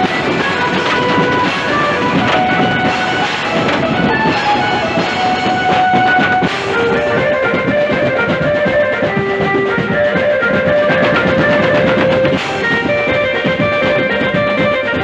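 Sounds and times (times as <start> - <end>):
dense drumming: 0.0 - 15.0
plucked string melody: 0.0 - 15.0.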